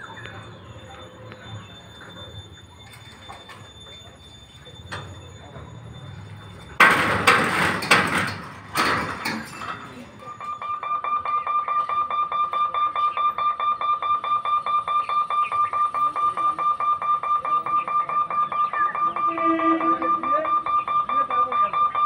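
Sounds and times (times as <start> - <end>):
level-crossing warning bell ringing: 0.0 - 22.0.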